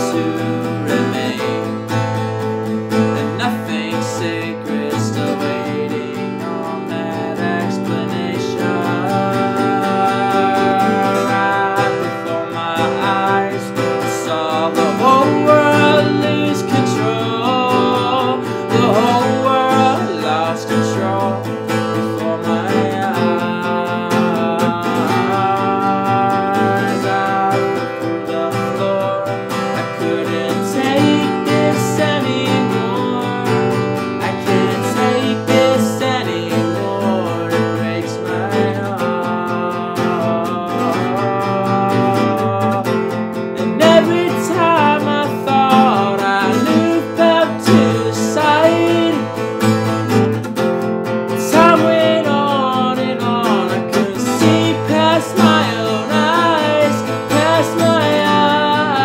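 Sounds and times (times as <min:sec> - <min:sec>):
acoustic guitar strumming chords: 0:00.0 - 0:59.0
man singing: 0:00.0 - 0:59.0.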